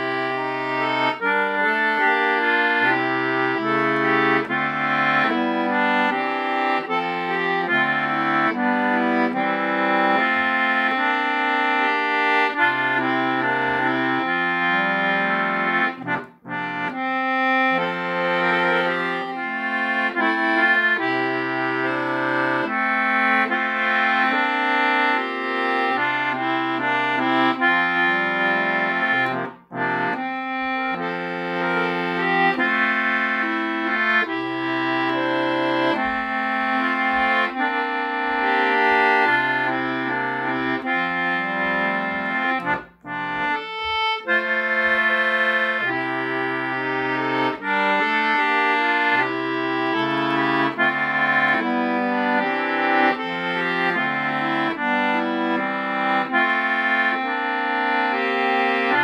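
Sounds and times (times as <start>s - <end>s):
concertina playing a hymn tune: 0.0s - 59.0s.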